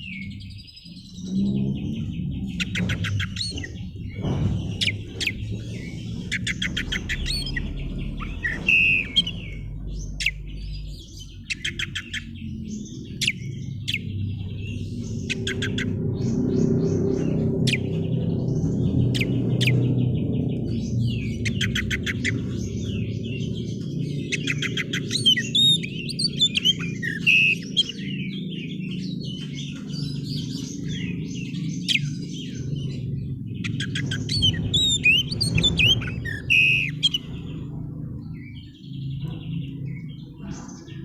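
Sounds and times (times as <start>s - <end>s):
bird singing trills and whistles: 0.0s - 41.0s
low background hum: 0.0s - 41.0s.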